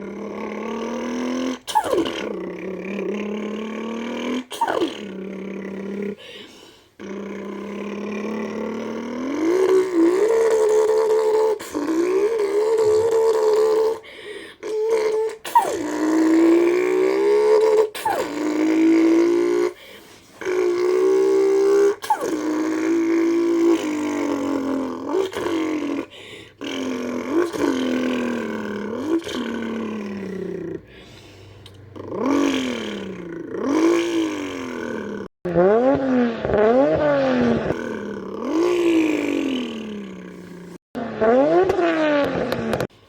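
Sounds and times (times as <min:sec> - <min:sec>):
boy imitating engine revs: 0:00.0 - 0:06.4, 0:07.0 - 0:42.9.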